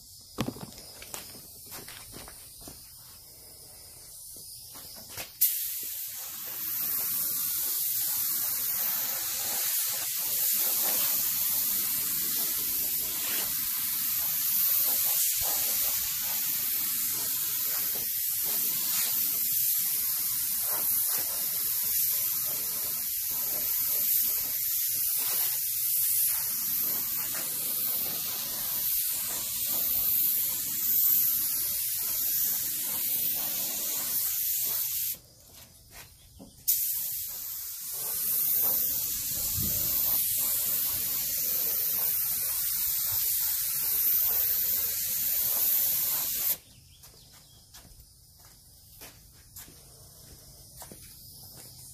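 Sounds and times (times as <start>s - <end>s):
paint spray gun hissing: 0.0s - 51.9s.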